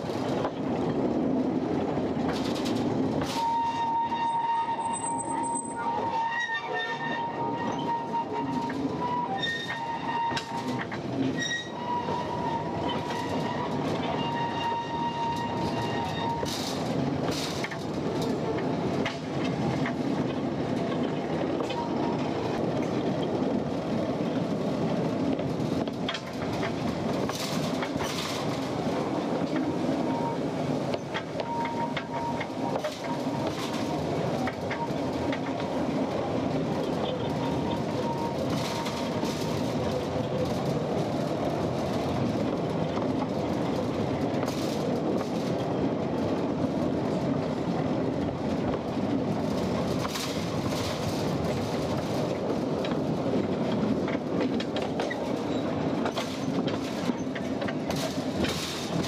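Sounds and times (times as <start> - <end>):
train rumbling: 0.0 - 59.0
wheels clacking on rails: 0.0 - 59.0.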